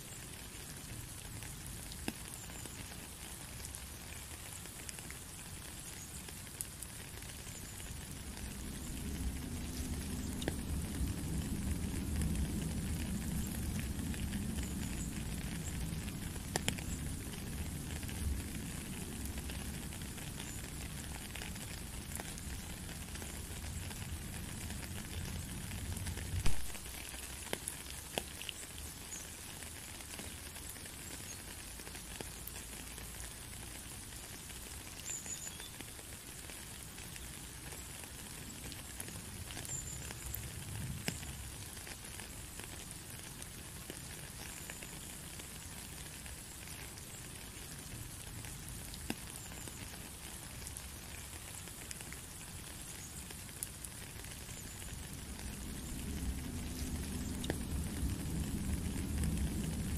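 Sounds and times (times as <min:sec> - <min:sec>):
rain falling into puddle: 0:00.0 - 0:59.9.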